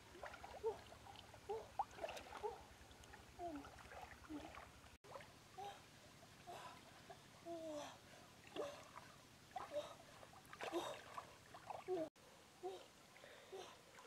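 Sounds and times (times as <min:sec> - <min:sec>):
water splashing and sloshing: 0:00.0 - 0:12.1, 0:12.8 - 0:14.0.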